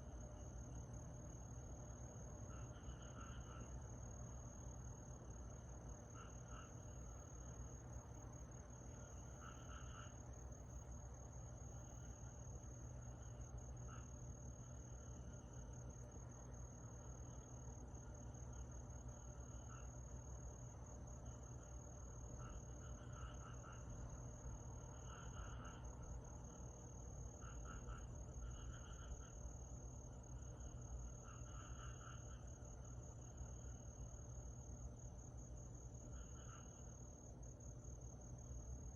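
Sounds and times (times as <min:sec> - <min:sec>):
insects trilling: 0:00.2 - 0:38.9.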